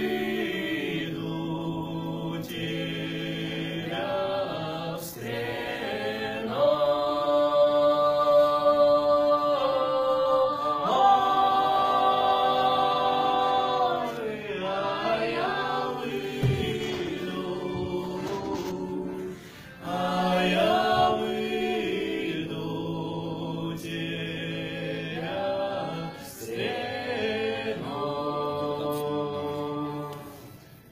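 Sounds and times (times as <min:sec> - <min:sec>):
group singing a cappella in harmony: 0:00.0 - 0:30.9.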